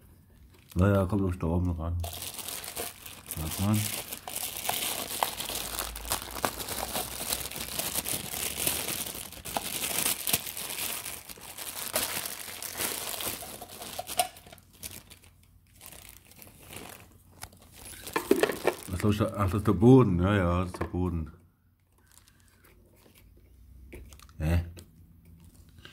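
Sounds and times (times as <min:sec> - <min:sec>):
packaging crinkling and rustling: 0:00.3 - 0:19.5, 0:21.9 - 0:23.4, 0:25.3 - 0:25.8.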